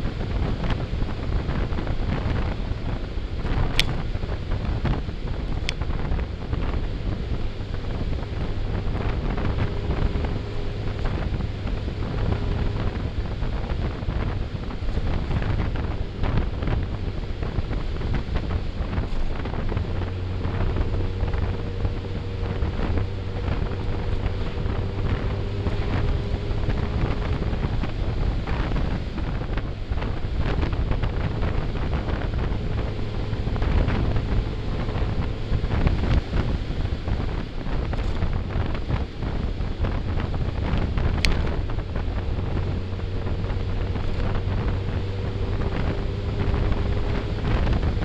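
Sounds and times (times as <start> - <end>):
motorcycle engine running: 0.0 - 48.0
wind rushing over microphone: 0.0 - 48.0.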